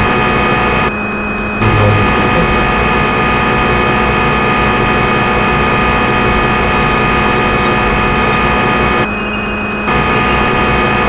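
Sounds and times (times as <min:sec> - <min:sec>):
lathe machine humming and whining: 0:00.0 - 0:11.0.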